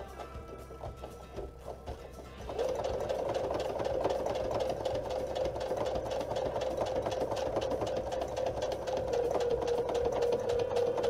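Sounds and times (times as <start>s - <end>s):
sewing machine running: 0.0s - 11.0s.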